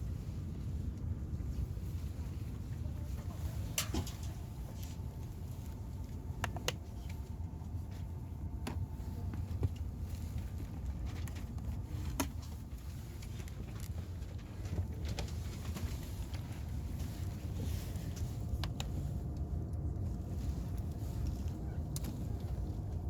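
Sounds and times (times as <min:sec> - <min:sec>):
train carriage rumble: 0:00.0 - 0:23.0.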